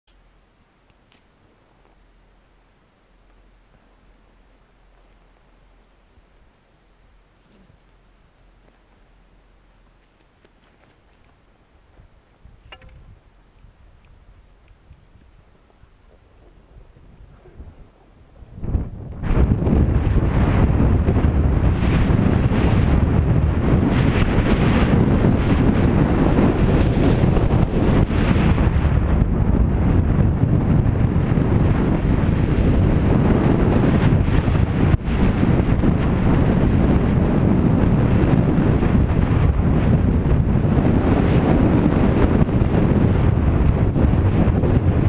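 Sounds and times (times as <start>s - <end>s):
wind buffeting microphone: 7.6s - 45.0s.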